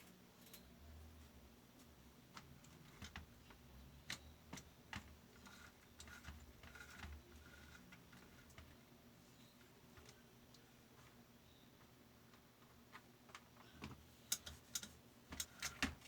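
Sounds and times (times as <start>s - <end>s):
faint clicks and taps: 1.8s - 8.8s, 9.6s - 11.2s, 11.8s - 16.0s.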